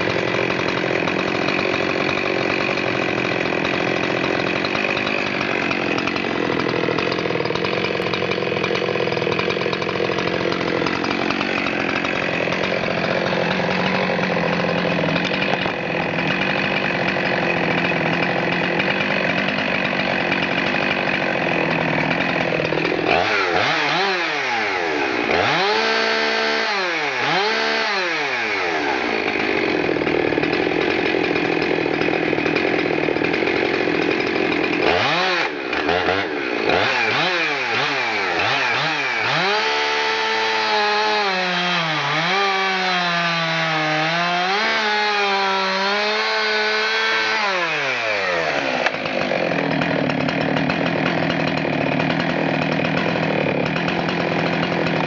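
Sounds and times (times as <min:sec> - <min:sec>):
chainsaw cutting a log: 0:00.0 - 0:55.0.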